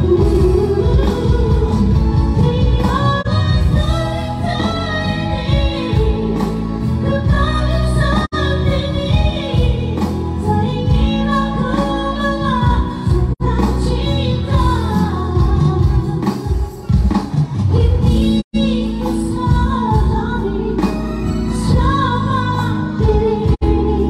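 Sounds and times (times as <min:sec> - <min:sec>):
electronic keyboard accompaniment: 0:00.0 - 0:24.0.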